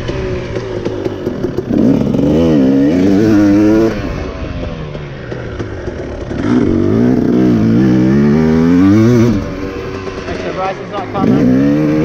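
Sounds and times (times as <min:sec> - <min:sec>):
dirt bike engine under throttle: 0:00.0 - 0:12.0.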